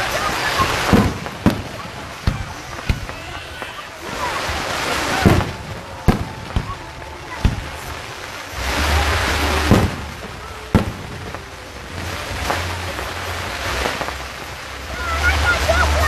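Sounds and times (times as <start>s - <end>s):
fireworks bursting: 0.0s - 16.0s
steady rushing noise: 0.0s - 16.0s.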